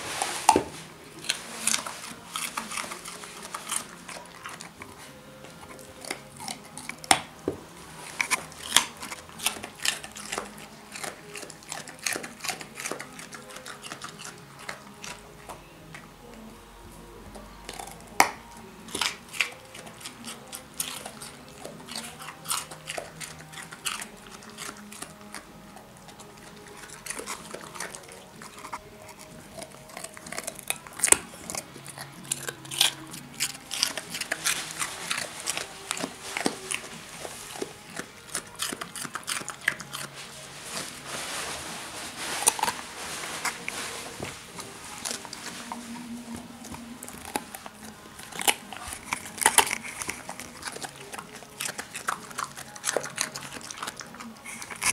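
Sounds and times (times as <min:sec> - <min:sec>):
dog crunching carrot: 0:00.0 - 0:54.9.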